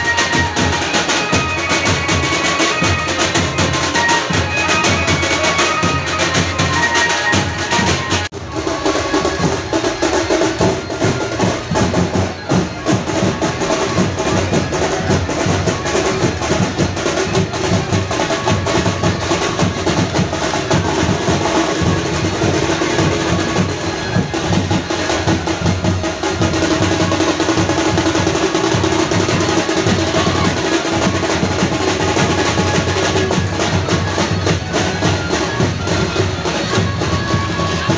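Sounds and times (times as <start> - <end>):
fast drum beat: 0.0 - 37.9.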